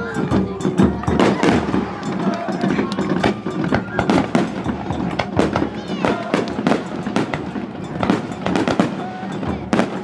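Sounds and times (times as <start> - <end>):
fireworks bangs and crackles: 0.1 - 10.0
fireworks whistling: 1.2 - 10.0.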